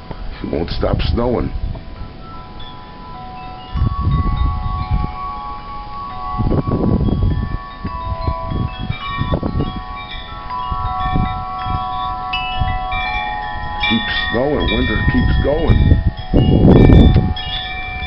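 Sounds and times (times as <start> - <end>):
wind chimes ringing: 0.0 - 18.0.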